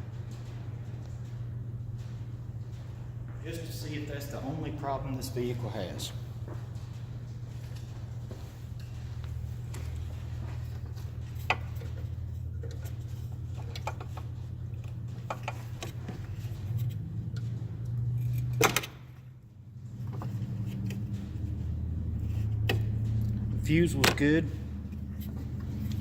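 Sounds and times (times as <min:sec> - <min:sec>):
steady low hum: 0:00.0 - 0:26.0
tools clicking and rattling: 0:00.0 - 0:26.0.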